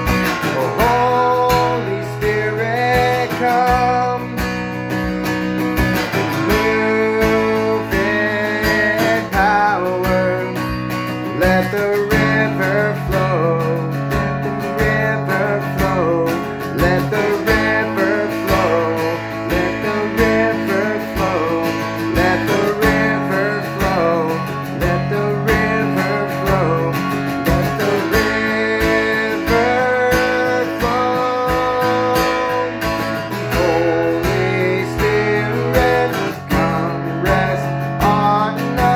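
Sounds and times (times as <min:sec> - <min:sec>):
strummed acoustic guitar: 0:00.0 - 0:38.9
worship band music: 0:00.0 - 0:38.9.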